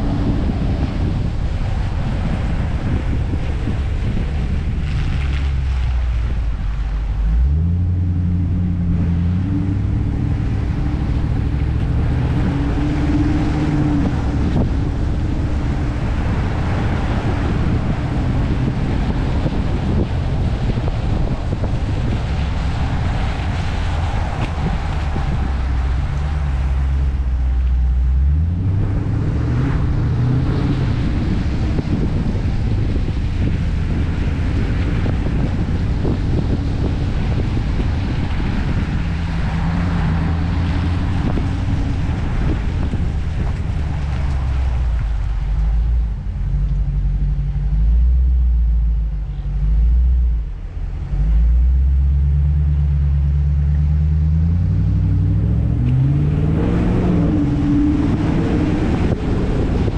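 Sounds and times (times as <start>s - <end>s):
car engine deep drone: 0.0s - 59.9s.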